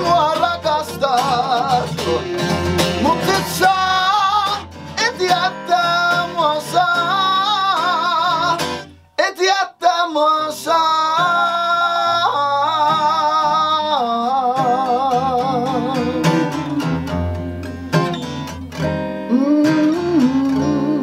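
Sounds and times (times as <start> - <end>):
acoustic guitar picked and strummed: 0.0 - 21.0
person singing wordlessly: 0.0 - 21.0.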